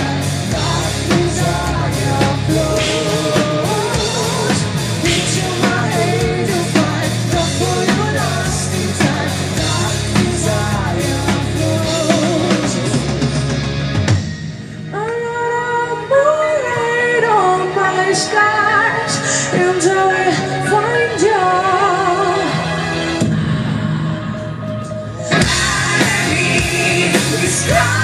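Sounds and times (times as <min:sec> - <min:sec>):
person singing: 0:00.0 - 0:13.3, 0:14.9 - 0:28.0
heavy metal band playing live: 0:00.0 - 0:28.0.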